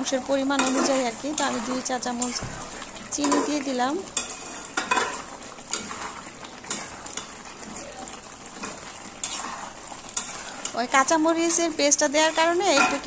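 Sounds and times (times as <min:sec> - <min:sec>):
gravy sizzling and bubbling in pan: 0:00.0 - 0:13.0
metal spatula scraping pan: 0:00.4 - 0:07.8, 0:08.5 - 0:13.0.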